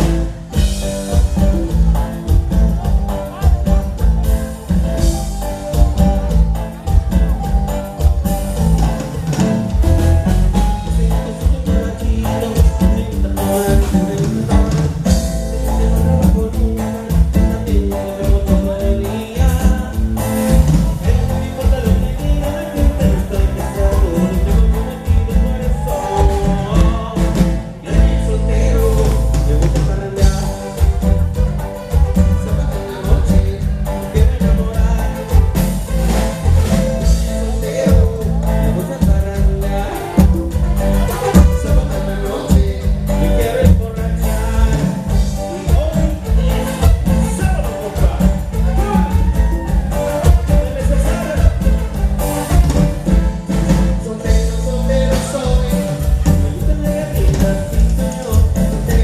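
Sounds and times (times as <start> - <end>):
bass: 0.0 - 59.0
drum kit: 0.0 - 59.0
guitar: 0.0 - 59.0
live latin dance band: 0.0 - 59.0
person singing: 0.0 - 59.0.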